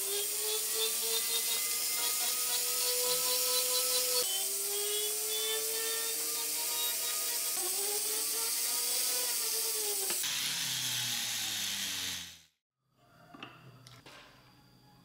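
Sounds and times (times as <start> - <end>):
rotary engraving tool whine: 0.0 - 12.4.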